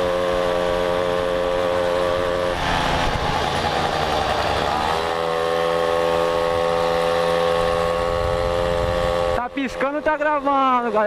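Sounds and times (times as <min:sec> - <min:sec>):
moped engine running: 0:00.0 - 0:11.0.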